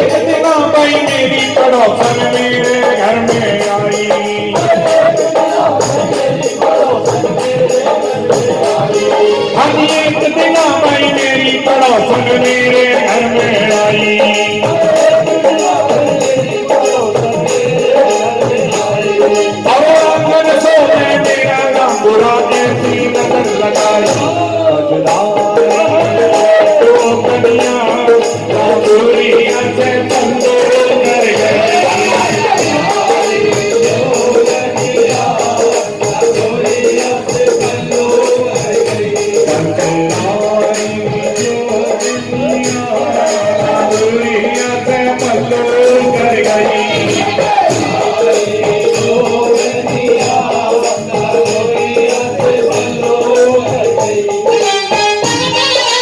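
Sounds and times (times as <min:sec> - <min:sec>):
jingling shaking percussion: 0:00.0 - 0:56.0
person singing devotional song: 0:00.0 - 0:56.0
steady beat: 0:00.0 - 0:56.0.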